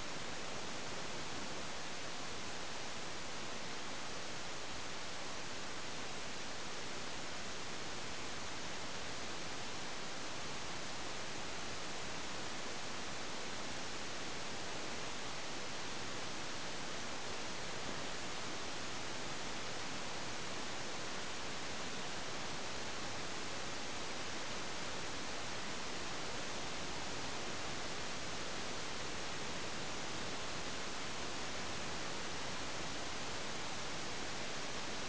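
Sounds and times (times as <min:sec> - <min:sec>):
steady recording hiss: 0:00.0 - 0:35.0.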